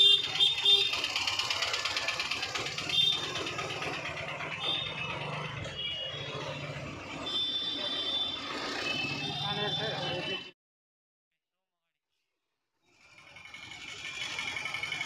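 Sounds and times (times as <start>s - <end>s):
traffic engines humming: 0.0s - 10.6s, 13.0s - 15.0s.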